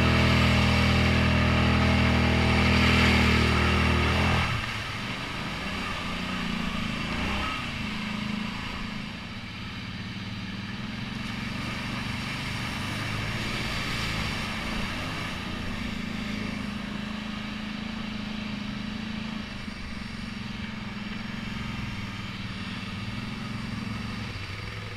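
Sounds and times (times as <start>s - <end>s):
atv engine running: 0.0s - 24.9s.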